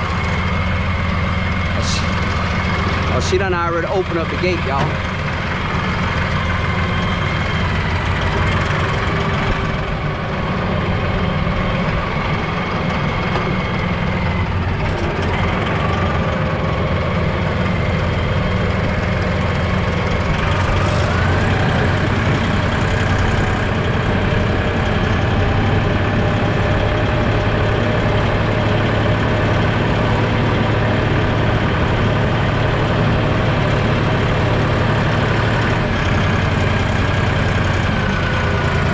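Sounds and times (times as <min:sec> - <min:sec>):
vehicle engine running at low revs: 0:00.0 - 0:38.9.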